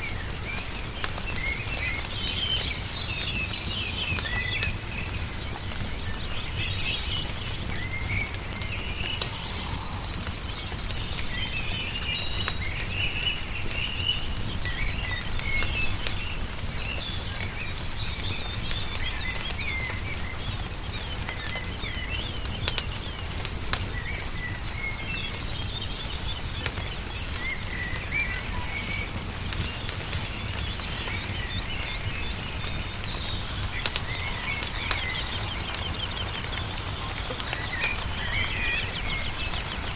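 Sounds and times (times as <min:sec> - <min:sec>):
songbirds chirping: 0:00.0 - 0:39.9
wood fire crackling and popping: 0:00.0 - 0:39.9.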